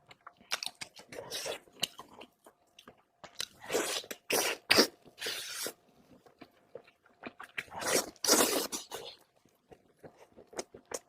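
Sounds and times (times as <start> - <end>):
person chewing and smacking: 0.0 - 11.0.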